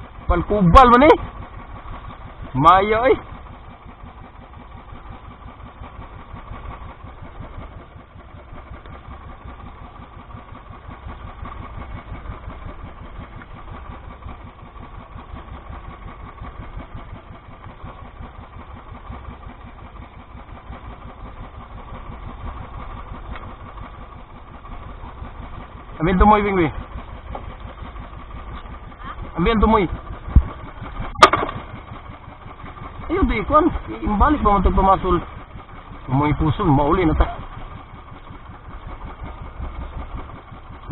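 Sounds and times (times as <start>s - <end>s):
boat engine idling: 0.0s - 40.9s.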